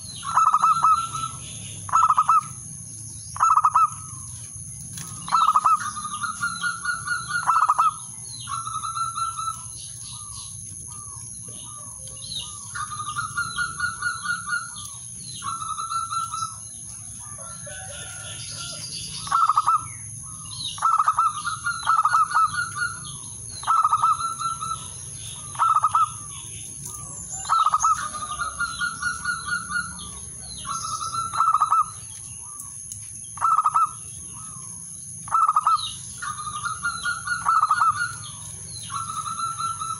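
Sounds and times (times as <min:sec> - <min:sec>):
dove cooing: 0:00.0 - 0:02.6, 0:03.4 - 0:04.3, 0:05.0 - 0:32.6, 0:33.4 - 0:34.6, 0:35.3 - 0:39.9.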